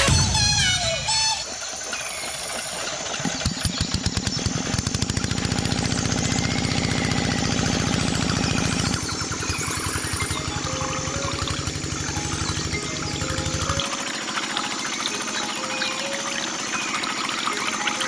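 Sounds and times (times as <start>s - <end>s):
small engine puttering: 0.0s - 18.0s.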